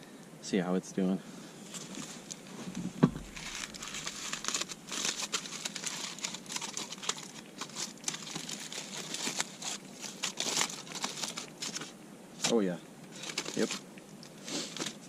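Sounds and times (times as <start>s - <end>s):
wrapping crinkling: 1.6s - 15.0s.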